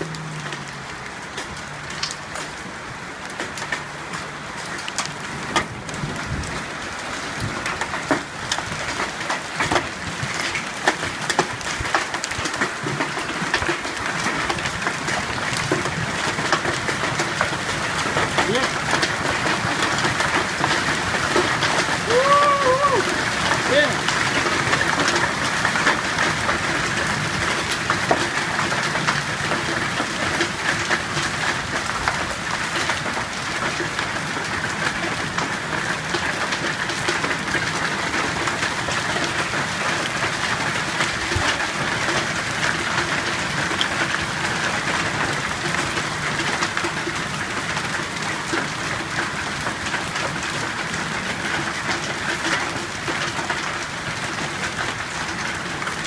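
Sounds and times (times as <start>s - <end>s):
hail falling heavily: 0.0s - 56.0s.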